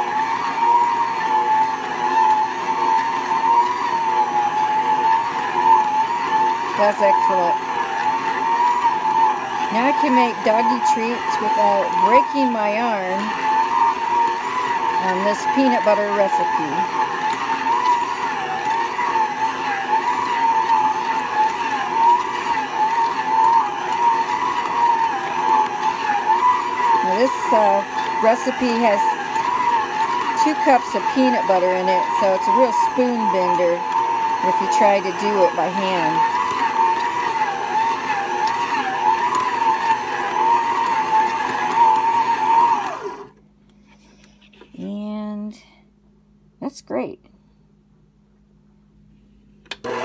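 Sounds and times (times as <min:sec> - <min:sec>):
stand mixer motor whining: 0:00.0 - 0:43.4, 0:49.7 - 0:50.0.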